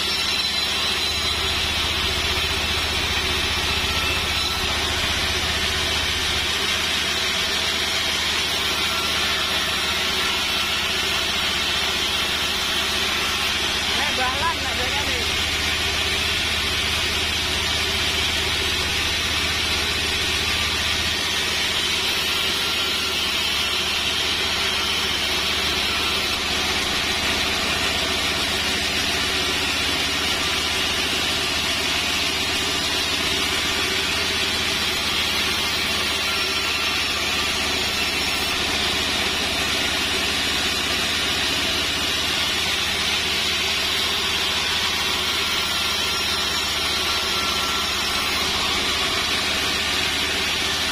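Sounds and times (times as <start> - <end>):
band saw drone: 0.0 - 50.9.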